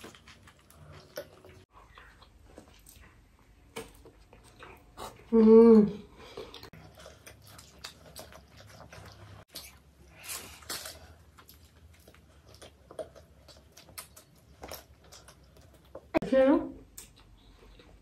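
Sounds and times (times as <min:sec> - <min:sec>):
chewing and biting soft food: 0:00.0 - 0:05.3, 0:06.2 - 0:16.2.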